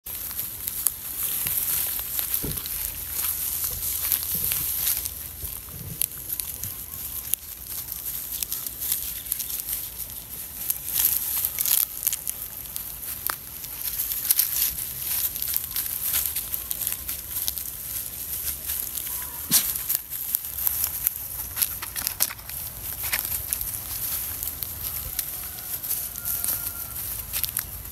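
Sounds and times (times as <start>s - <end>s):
straw and leaves rustling: 0.1s - 27.9s.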